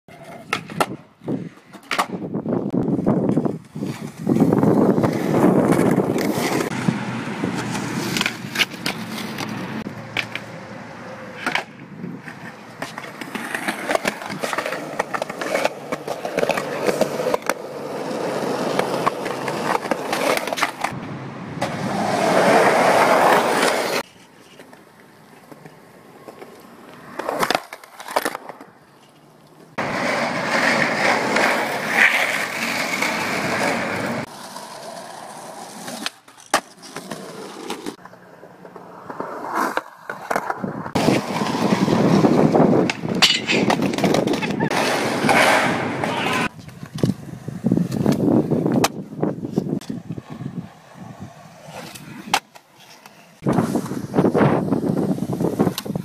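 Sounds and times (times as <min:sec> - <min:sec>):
skateboard wheels rolling on concrete: 0:00.1 - 0:56.0.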